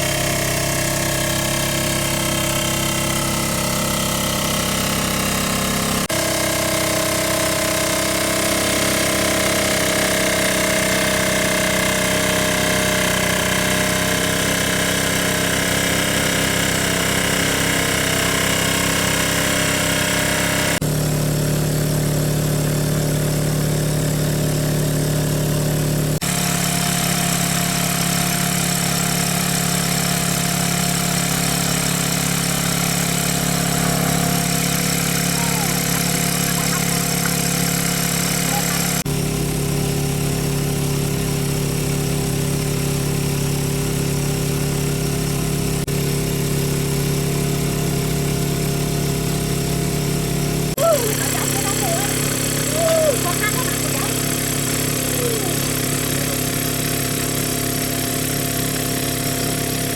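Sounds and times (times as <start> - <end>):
small engine water pump running: 0.0 - 59.9.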